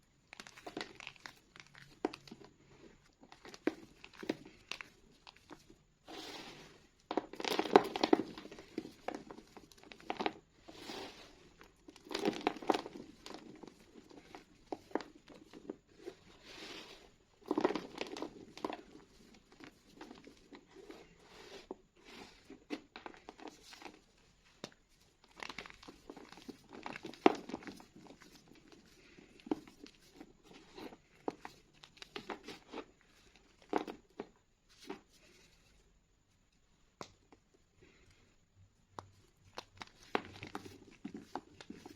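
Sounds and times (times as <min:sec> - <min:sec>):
chalk crunching and crumbling: 0:00.3 - 0:35.8.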